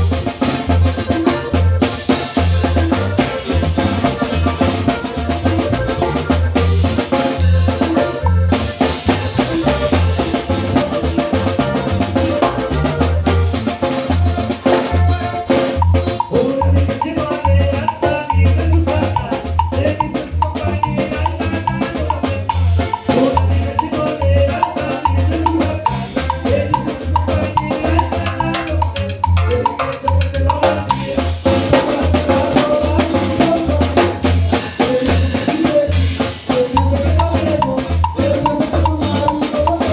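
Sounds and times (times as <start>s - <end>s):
drum kit with steady bass: 0.0s - 39.9s
fast band music: 0.0s - 39.9s.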